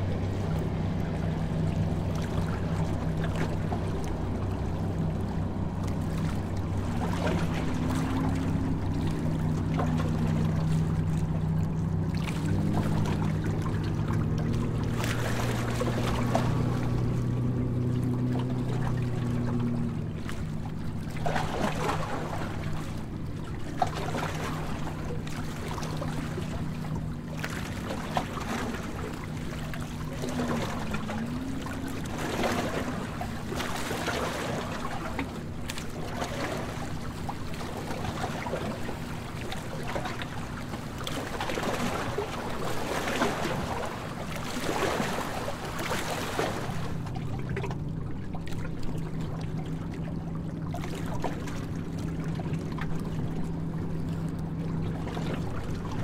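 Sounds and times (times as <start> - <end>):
boat engine hum: 0.0 - 56.0
water rushing along hull: 0.0 - 56.0.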